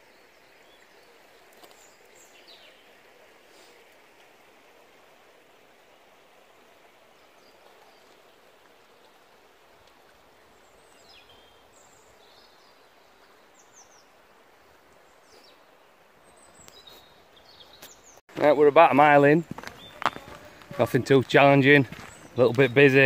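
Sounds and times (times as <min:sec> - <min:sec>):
river running over stones: 0:00.0 - 0:23.0.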